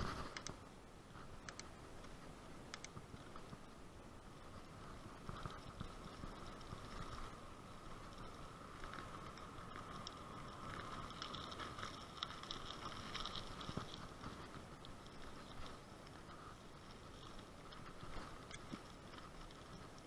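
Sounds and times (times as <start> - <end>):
bicycle tyre and wind rumble: 0.0 - 20.0
bicycle rattles and clicks: 1.2 - 20.0.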